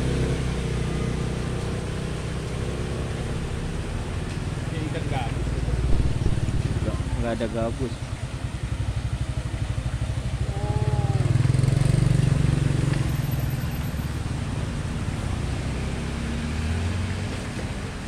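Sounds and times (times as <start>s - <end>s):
engine pulsing rumble: 0.0s - 16.3s.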